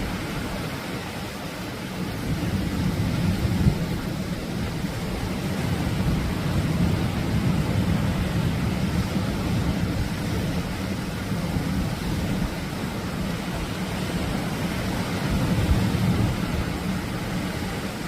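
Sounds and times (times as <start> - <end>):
deep rumble of waves: 0.0 - 18.0
surf breaking on beach: 0.0 - 18.0.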